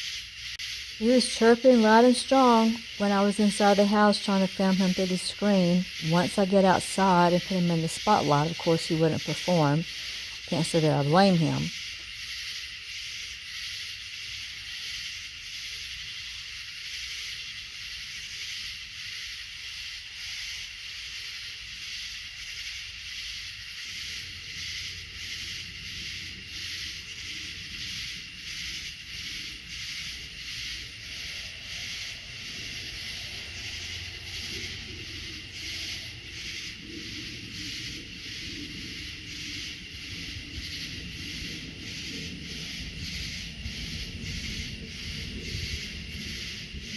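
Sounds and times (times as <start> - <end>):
insect chirping: 0.0 - 46.9.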